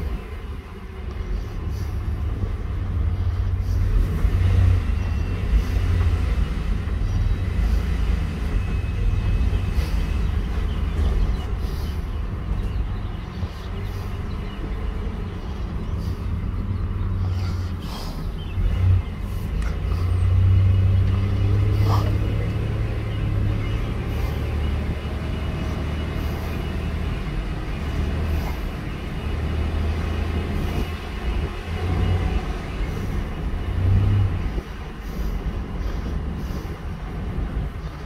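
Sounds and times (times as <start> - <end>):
truck engine droning low: 0.0 - 38.0.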